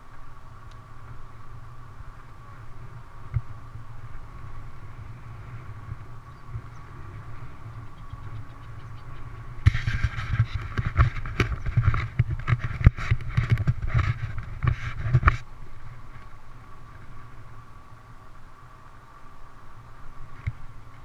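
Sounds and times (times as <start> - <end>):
camera rattling on bike: 0.0 - 17.8, 20.2 - 21.0
bike riding noise: 0.0 - 21.0
faint steady whine: 0.0 - 21.0.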